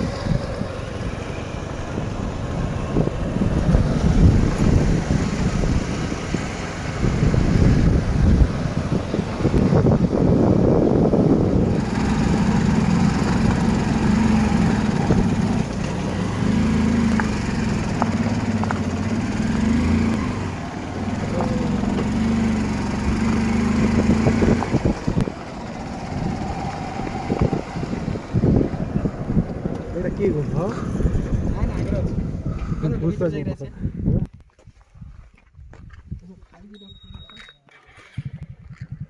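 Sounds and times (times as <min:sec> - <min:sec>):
motor scooter engine: 0:00.0 - 0:32.4
wind rumble: 0:00.0 - 0:39.0.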